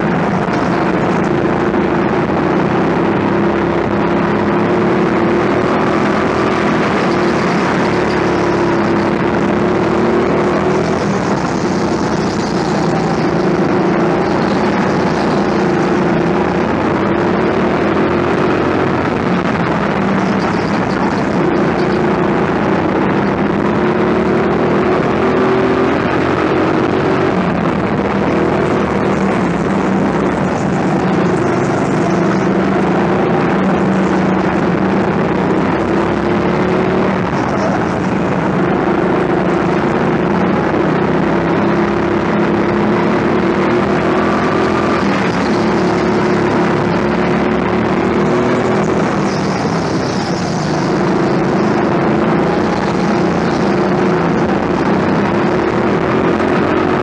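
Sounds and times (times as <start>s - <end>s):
go-kart motor: 0.0s - 57.0s.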